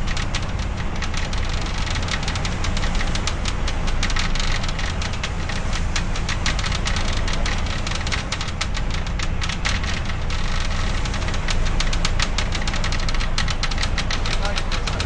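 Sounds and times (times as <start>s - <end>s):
rapid irregular clicking and pattering: 0.0s - 15.0s.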